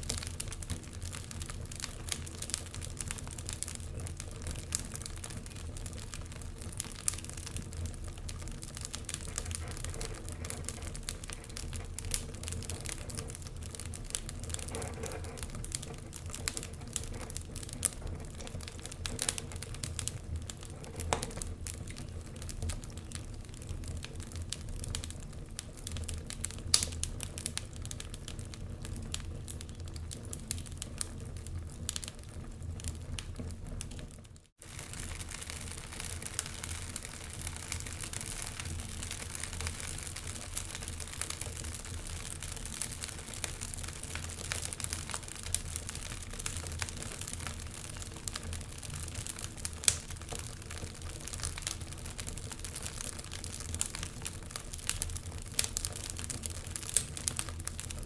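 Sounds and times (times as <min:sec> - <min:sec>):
fireplace fire crackling and popping: 0:00.0 - 0:58.0.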